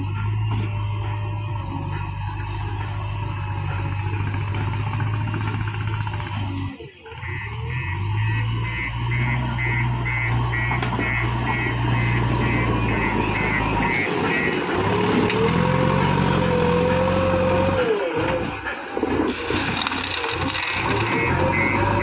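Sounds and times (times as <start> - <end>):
reversing alarm beeping: 0.0 - 17.8, 20.4 - 22.0
diesel engine running: 0.0 - 22.0
hydraulic whine: 0.0 - 22.0.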